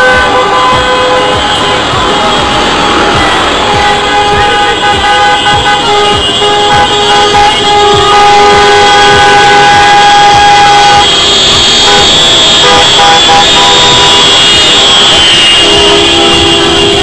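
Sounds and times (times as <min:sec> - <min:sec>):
car horns honking: 0:00.0 - 0:17.0.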